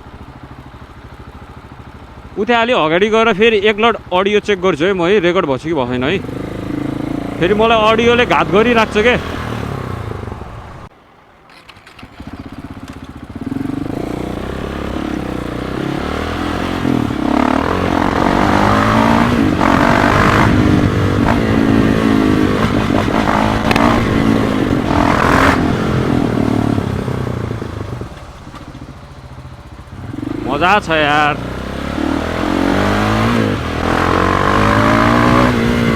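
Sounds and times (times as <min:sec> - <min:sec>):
motorcycle engine revving: 0:00.0 - 0:10.9, 0:11.5 - 0:35.9.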